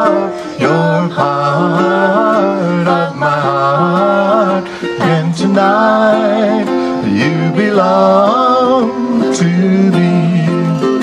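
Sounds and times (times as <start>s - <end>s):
person singing wordless melody: 0.0s - 11.0s
ukulele strumming: 0.0s - 11.0s.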